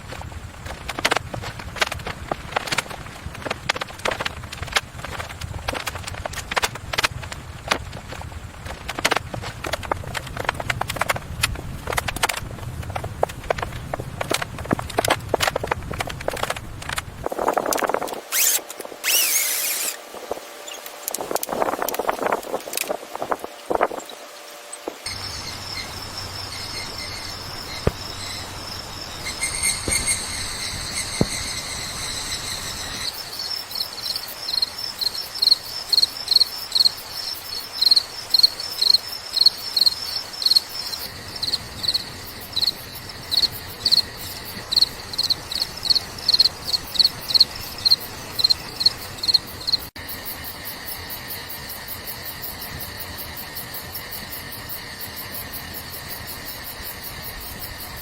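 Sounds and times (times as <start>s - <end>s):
crickets chirping: 7.7s - 58.0s.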